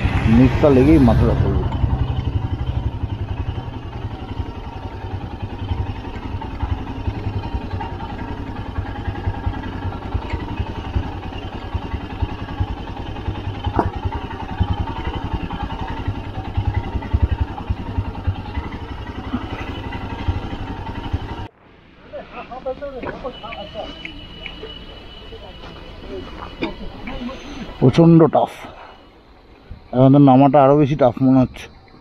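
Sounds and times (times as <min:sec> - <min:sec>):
motorcycle engine rumbling: 0:00.0 - 0:32.0.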